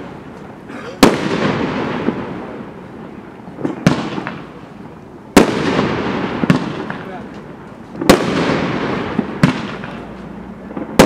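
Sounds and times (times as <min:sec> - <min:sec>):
fireworks bangs: 0:00.0 - 0:11.0
noisy fireworks trail: 0:00.0 - 0:11.0.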